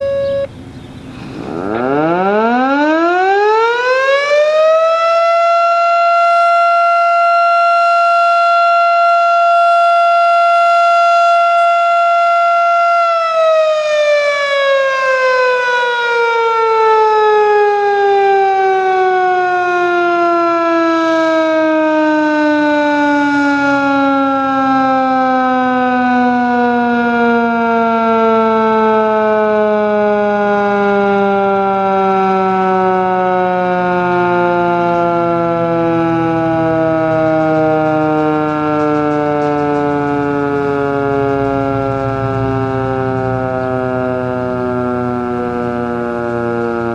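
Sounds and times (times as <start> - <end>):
outdoor warning siren winding: 0.0 - 46.9.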